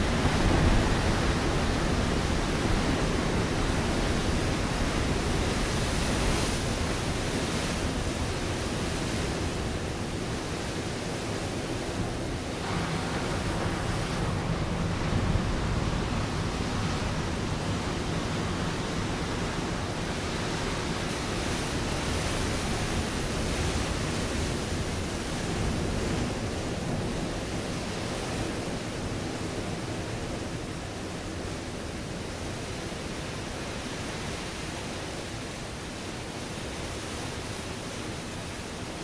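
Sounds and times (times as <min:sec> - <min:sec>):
waves breaking on rocky shore: 0:00.0 - 0:39.0.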